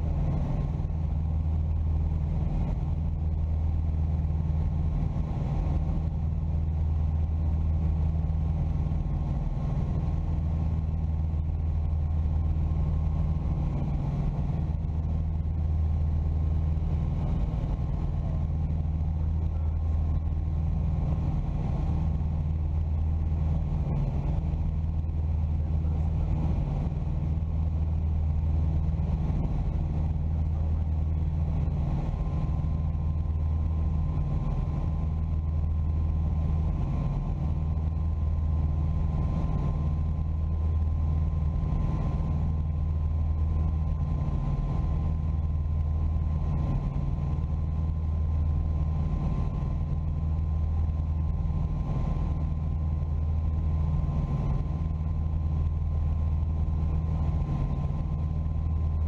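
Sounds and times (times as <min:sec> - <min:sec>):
aircraft engines droning in cockpit: 0:00.0 - 0:59.0.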